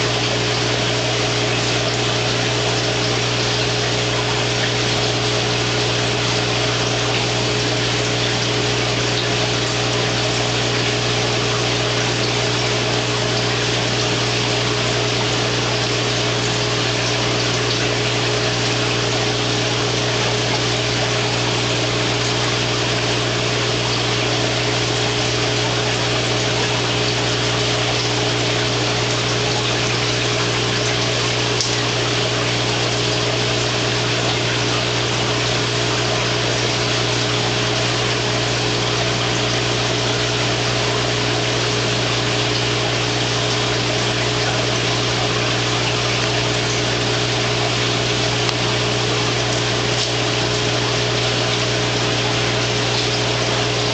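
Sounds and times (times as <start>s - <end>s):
air bubbling through water: 0.0s - 53.9s.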